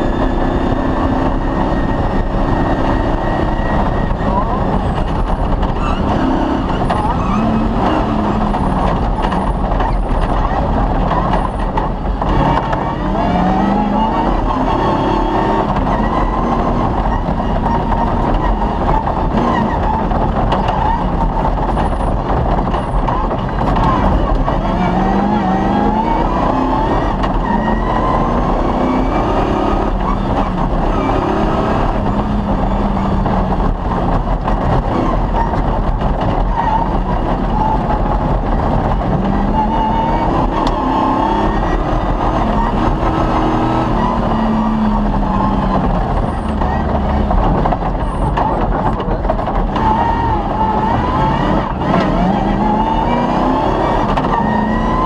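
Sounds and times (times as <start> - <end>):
rally car engine revving: 0.0 - 55.0
road and wind noise: 0.0 - 55.0.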